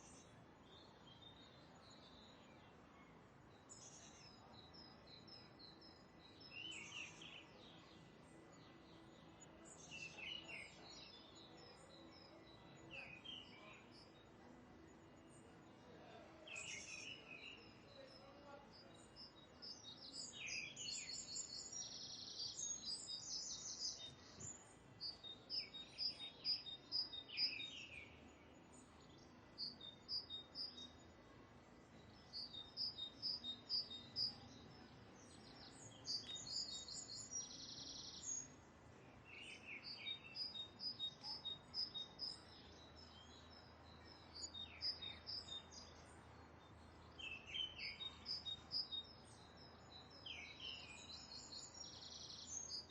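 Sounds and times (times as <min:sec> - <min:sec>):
faint background hiss: 0:00.0 - 0:52.9
small birds chirping: 0:00.0 - 0:52.9.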